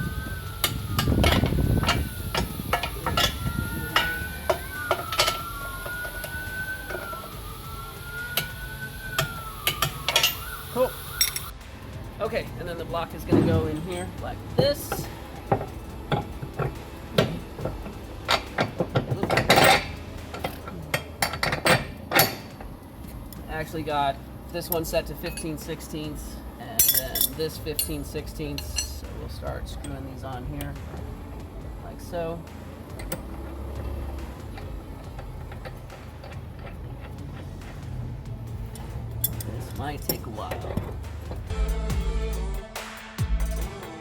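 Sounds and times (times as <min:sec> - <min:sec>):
distant siren wailing: 0:00.0 - 0:41.5
hand tools clinking on metal: 0:00.0 - 0:41.5
scraping rattle: 0:00.0 - 0:41.6
sharp metal clanks: 0:00.2 - 0:41.5.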